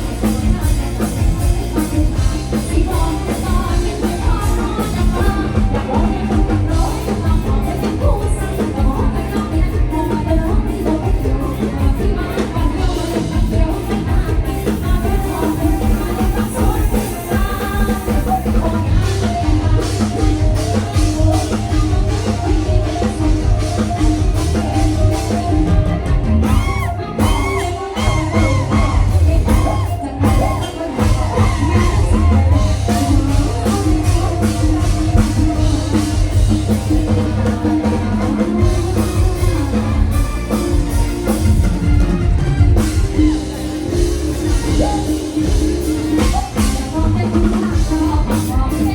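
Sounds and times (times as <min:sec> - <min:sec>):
person singing: 0:00.0 - 0:41.8, 0:43.0 - 0:48.9
drum kit: 0:00.0 - 0:48.9
heavy bass beat: 0:00.0 - 0:48.9.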